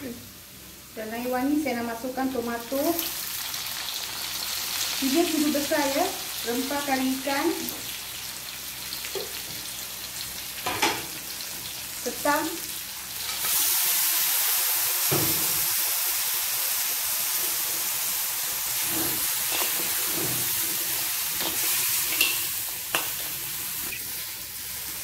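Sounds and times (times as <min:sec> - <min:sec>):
crabs sizzling in oil: 0:00.0 - 0:25.0.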